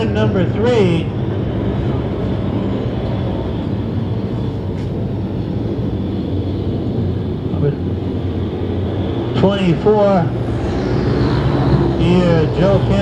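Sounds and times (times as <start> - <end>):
race car engines at speed: 0.0 - 13.0.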